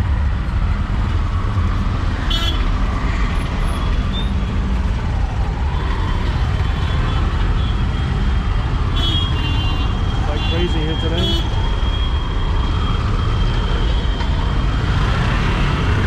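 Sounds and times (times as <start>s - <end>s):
auto-rickshaw engine rumbling: 0.0s - 16.0s.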